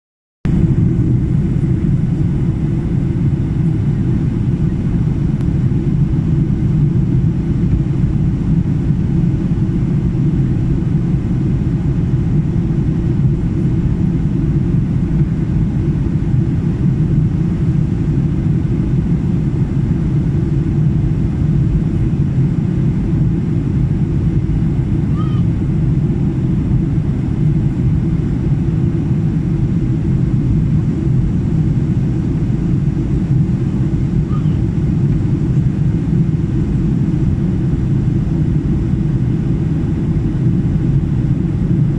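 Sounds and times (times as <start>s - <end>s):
jet airliner cabin drone: 0.5s - 41.9s.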